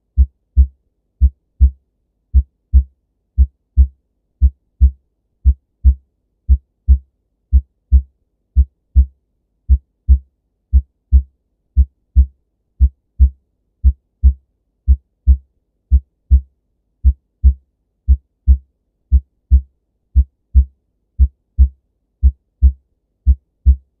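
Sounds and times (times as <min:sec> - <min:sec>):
heartbeat lub-dub thumps: 0:00.0 - 0:09.1, 0:09.7 - 0:24.0.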